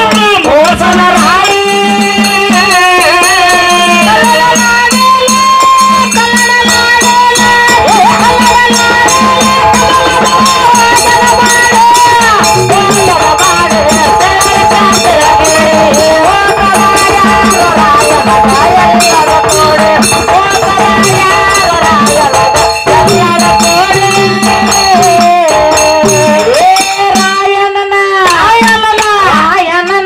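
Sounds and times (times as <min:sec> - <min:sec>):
hand drum beat: 0:00.0 - 0:30.0
person singing: 0:00.0 - 0:30.0
brass hand cymbals jingling: 0:01.4 - 0:27.6.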